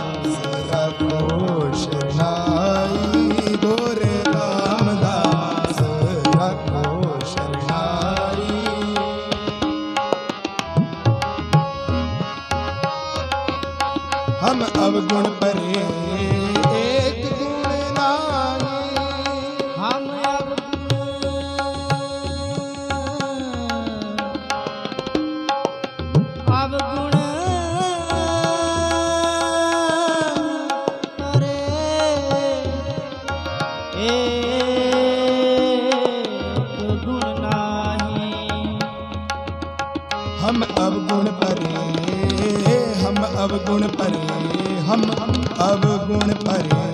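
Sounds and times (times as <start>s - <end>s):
harmoniums playing: 0.0s - 46.9s
tabla playing: 0.0s - 46.9s.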